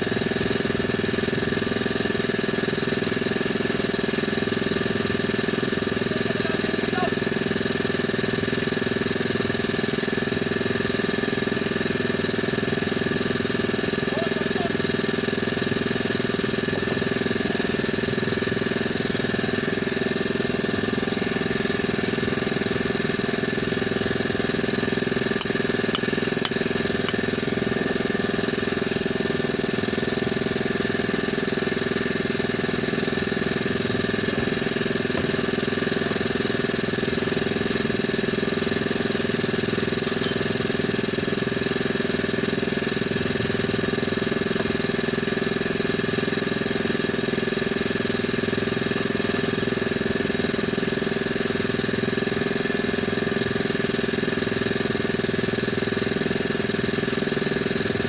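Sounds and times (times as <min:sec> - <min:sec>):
small engine droning: 0:00.0 - 0:58.0.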